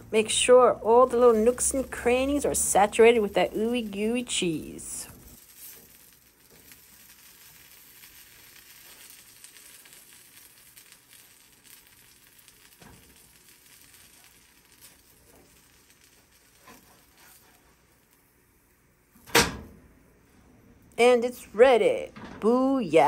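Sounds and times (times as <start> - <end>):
sandwich sizzling in frying pan: 0.0 - 19.8.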